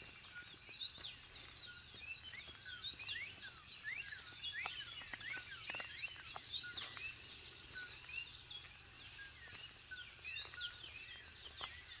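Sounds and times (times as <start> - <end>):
birds singing and chirping: 0.0 - 12.0.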